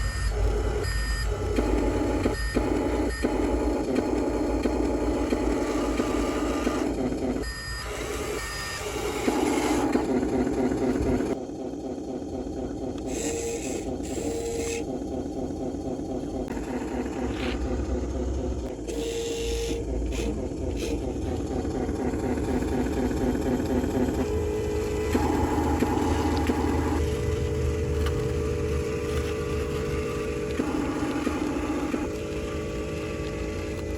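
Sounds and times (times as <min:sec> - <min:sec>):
toy model mechanical whir: 0:00.0 - 0:33.9.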